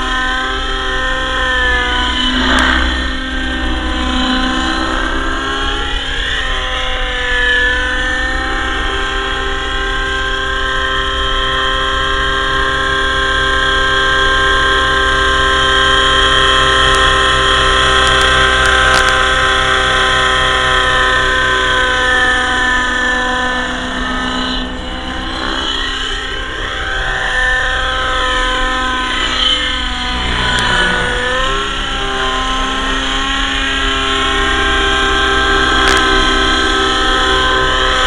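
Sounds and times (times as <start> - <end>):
model helicopter engine whine: 0.0 - 38.0.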